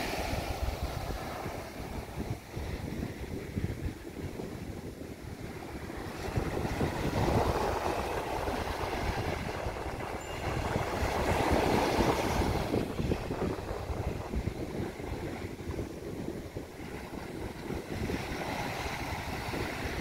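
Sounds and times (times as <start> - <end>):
small waves breaking on beach: 0.0 - 20.0
wind buffeting microphone: 0.0 - 20.0.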